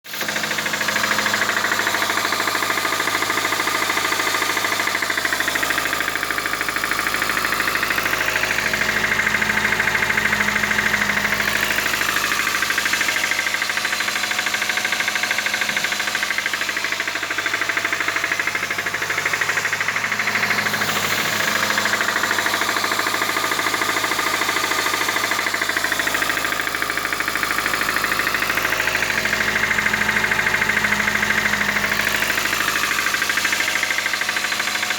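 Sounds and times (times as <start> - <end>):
fast even engine knocking: 0.1 - 34.9
petrol engine running: 0.1 - 34.9.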